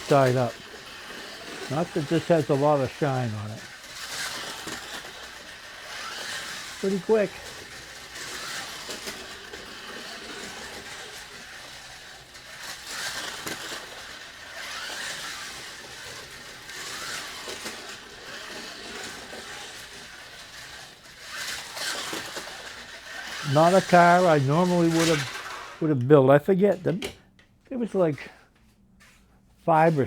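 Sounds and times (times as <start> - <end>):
slot car motor whining: 0.0 - 28.2.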